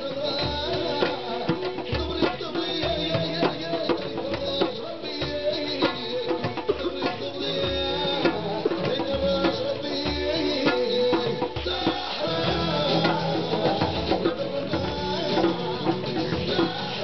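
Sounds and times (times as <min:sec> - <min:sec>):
hand drums beating: 0:00.0 - 0:17.0
rattling percussion: 0:00.0 - 0:17.0.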